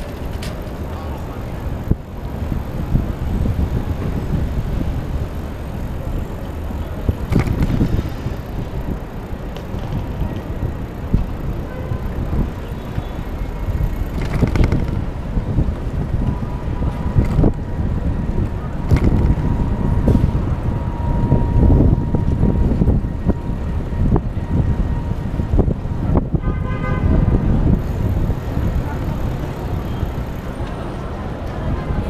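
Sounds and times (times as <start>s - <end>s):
road noise: 0.0s - 32.0s
wind rumble: 0.0s - 32.0s.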